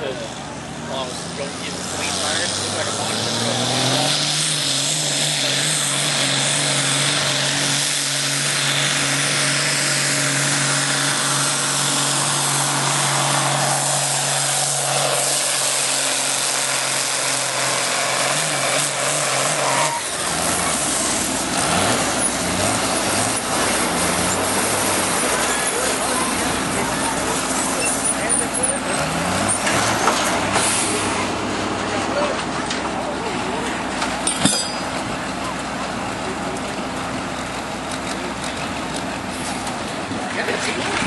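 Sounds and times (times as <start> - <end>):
diesel engine pulling under load: 0.0 - 41.0
low engine rumble: 4.3 - 41.0.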